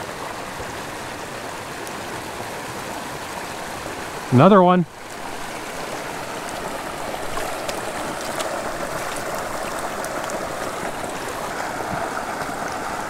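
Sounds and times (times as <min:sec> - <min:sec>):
creek running over stones: 0:00.0 - 0:13.0.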